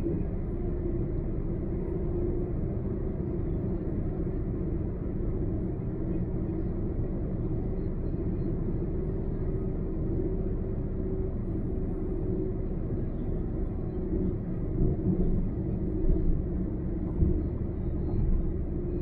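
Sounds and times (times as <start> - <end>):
car road noise rumble: 0.0 - 19.0
faint steady hum: 0.0 - 19.0.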